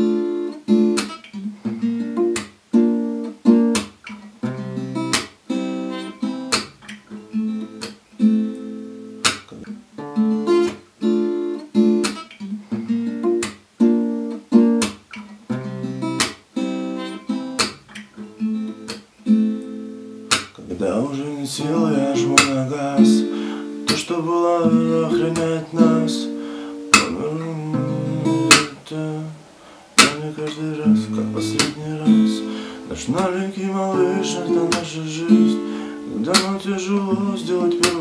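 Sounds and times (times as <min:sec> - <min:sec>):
fingerpicked acoustic guitar: 0:00.0 - 0:38.0.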